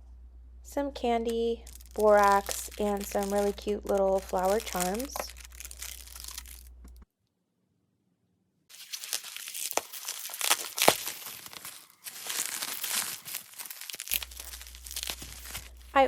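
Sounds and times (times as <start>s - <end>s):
crinkling handling noise: 1.2s - 7.0s, 8.7s - 16.0s.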